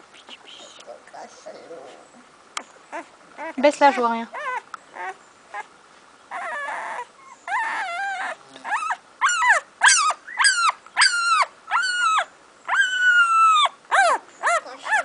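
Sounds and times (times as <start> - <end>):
puppy crying: 1.7 - 5.7, 6.3 - 15.0.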